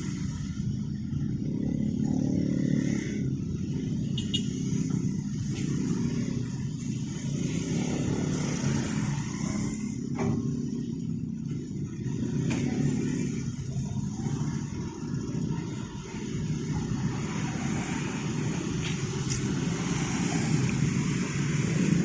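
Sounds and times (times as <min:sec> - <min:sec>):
motorcycle and car traffic: 0:00.0 - 0:22.0.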